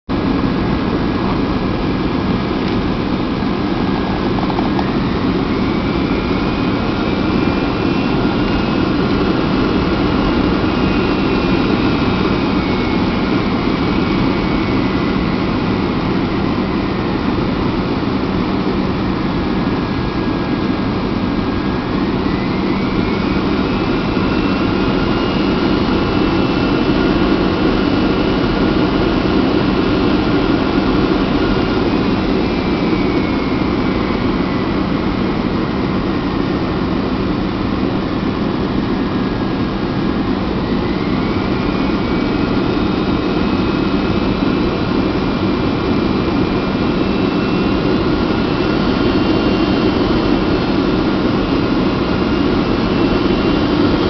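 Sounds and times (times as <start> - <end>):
jet engine and airflow rush: 0.1 - 54.0
thin engine whine: 0.1 - 54.0.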